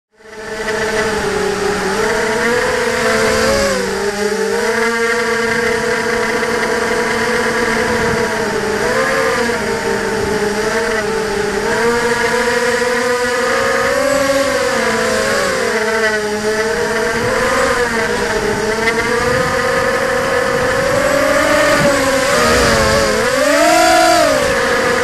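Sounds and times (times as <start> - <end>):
quadcopter motors whining: 0.1 - 25.0.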